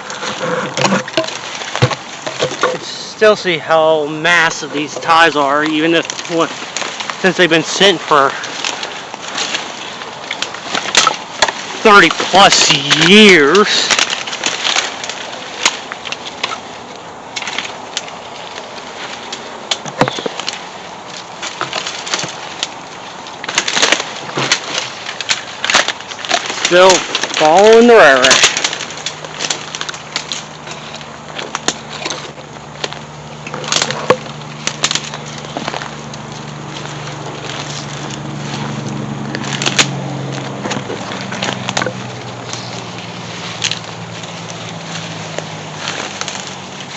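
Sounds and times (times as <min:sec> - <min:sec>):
footsteps crunching twigs: 0:00.0 - 0:46.9
steady outdoor hiss: 0:00.0 - 0:46.9.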